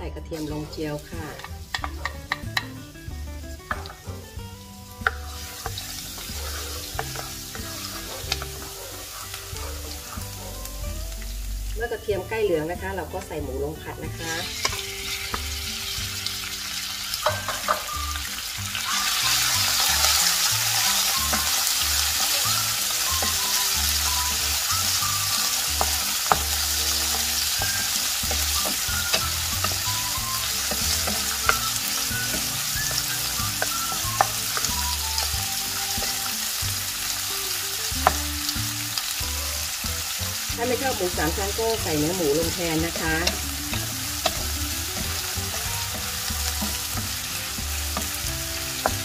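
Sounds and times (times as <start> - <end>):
pork sizzling in hot oil: 0.0 - 49.0.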